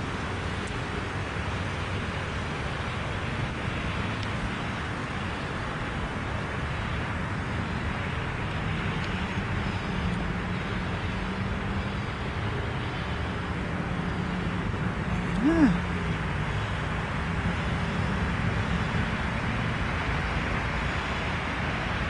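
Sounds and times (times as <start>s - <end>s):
passing vehicle engine hum: 0.0s - 22.0s
road traffic noise: 0.0s - 22.0s.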